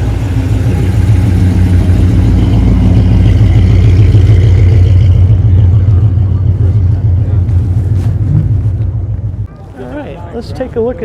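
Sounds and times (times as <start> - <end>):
car engine running: 0.0 - 9.5.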